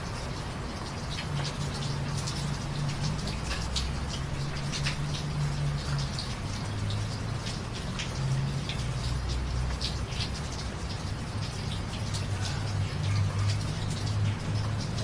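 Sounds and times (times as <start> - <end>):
raindrops pattering on hard surface: 0.0 - 15.0.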